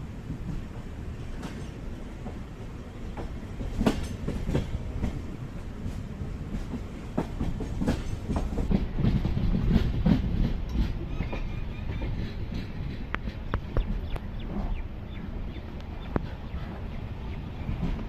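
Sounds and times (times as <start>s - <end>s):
train rumbling on rails: 0.0s - 18.0s
wheels clacking over rail joints: 3.1s - 18.0s.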